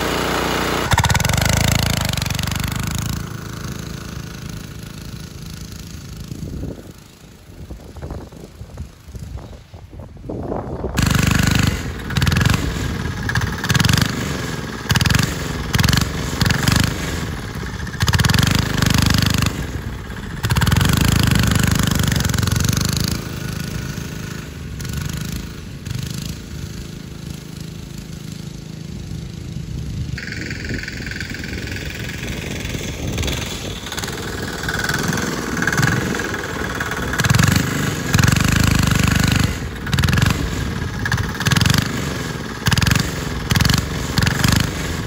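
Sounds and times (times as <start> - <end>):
go-kart engine revving: 0.0 - 9.5, 10.8 - 45.0.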